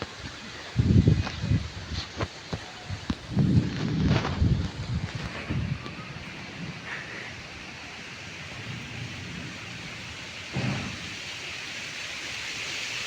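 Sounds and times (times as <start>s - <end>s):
wind buffeting microphone: 0.0s - 11.5s
wind hissing outdoors: 0.0s - 13.0s.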